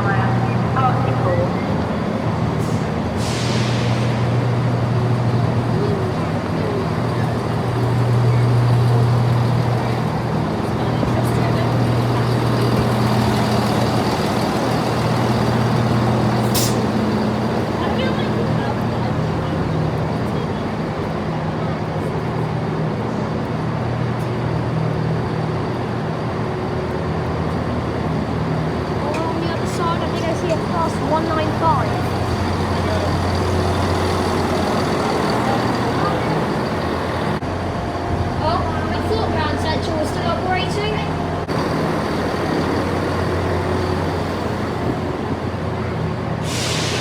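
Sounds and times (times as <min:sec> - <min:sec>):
train engine idling: 0:00.0 - 0:47.0.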